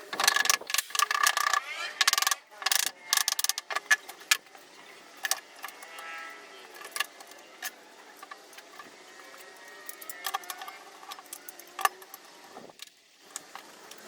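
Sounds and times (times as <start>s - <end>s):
tools and wood clicking and knocking: 0.0s - 14.0s.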